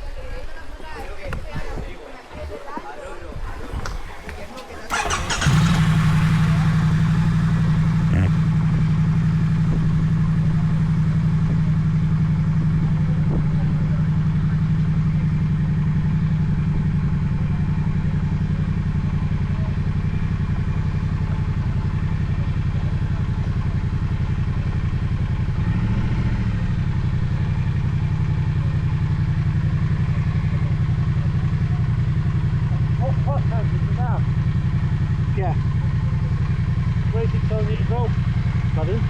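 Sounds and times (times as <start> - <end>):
motorcycle engine running: 3.3 - 39.0.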